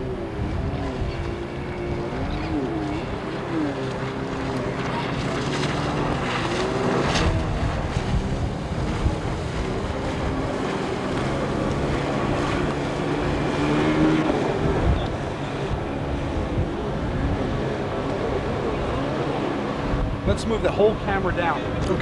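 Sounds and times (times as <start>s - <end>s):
boat motor running: 0.0s - 22.0s
water rushing past hull: 0.0s - 22.0s
wind buffeting microphone: 0.0s - 22.0s.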